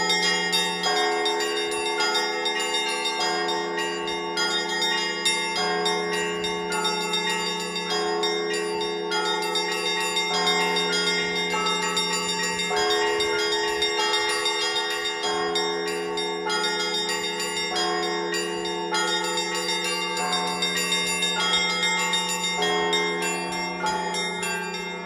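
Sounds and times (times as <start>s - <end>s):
small bells struck rapidly: 0.0s - 25.0s
deep bell ringing: 4.9s - 25.0s.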